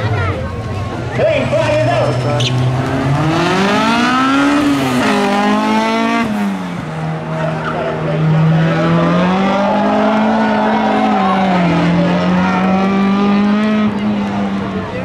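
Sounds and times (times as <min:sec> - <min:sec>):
car engines accelerating hard: 0:00.0 - 0:15.0.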